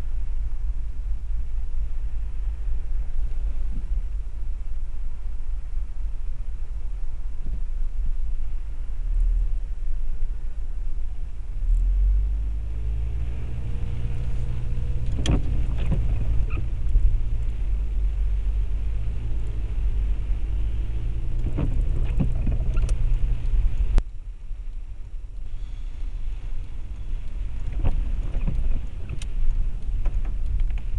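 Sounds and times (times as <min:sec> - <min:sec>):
car engine and tyres rumble: 0:00.0 - 0:30.9.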